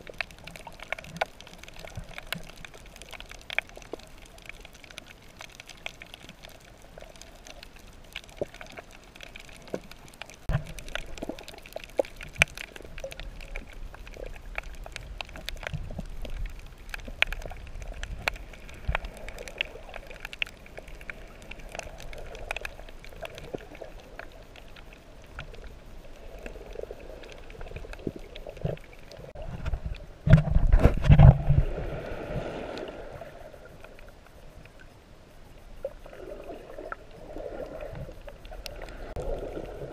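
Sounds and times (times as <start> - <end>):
underwater clicks and crackles: 0.0 - 39.9
underwater rumble of moving water: 0.0 - 39.9.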